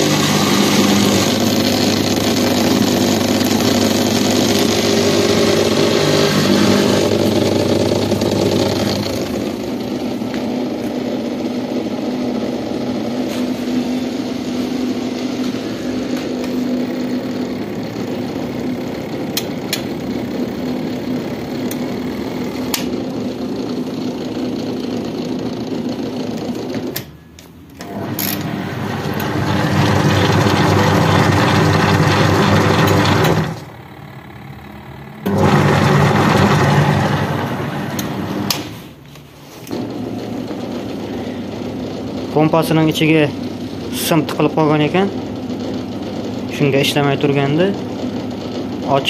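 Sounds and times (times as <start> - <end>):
drain pump humming: 0.0 - 27.1, 27.7 - 38.6, 39.6 - 49.0
washing machine motor running: 0.0 - 49.0.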